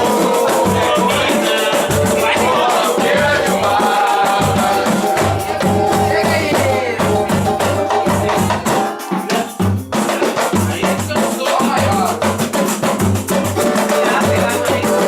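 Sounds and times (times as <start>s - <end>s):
samba music: 0.0s - 15.0s.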